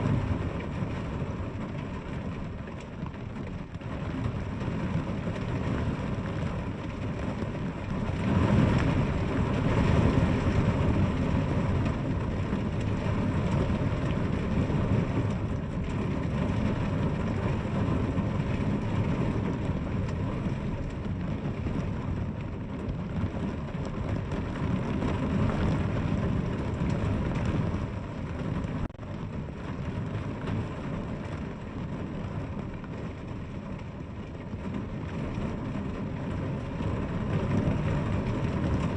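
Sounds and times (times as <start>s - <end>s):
deep rumble: 0.0s - 38.9s.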